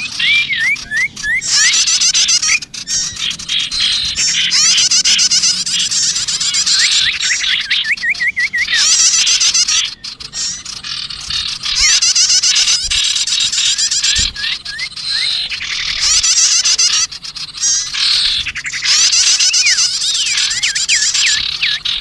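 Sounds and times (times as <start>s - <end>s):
songbirds chattering: 0.0s - 22.0s
sweeping whistled bird notes: 0.0s - 22.0s.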